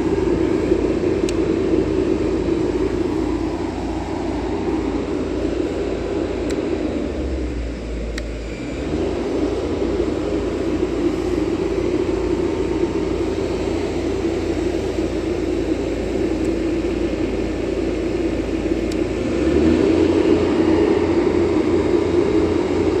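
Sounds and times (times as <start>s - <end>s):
diesel generator running: 0.0s - 23.0s.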